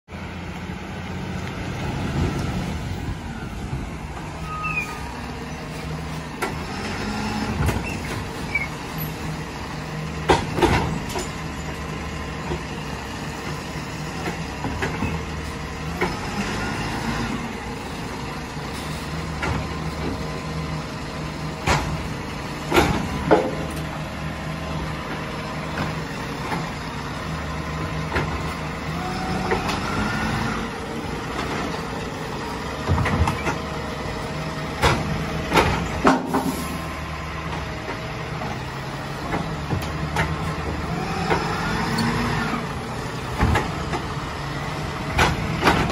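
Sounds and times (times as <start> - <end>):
truck engine running: 0.1 - 45.9.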